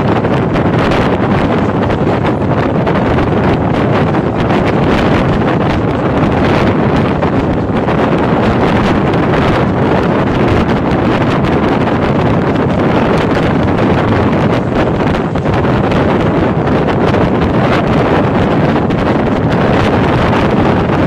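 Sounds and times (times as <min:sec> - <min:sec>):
train running on track: 0:00.0 - 0:21.0
wind rushing over microphone: 0:00.0 - 0:21.0.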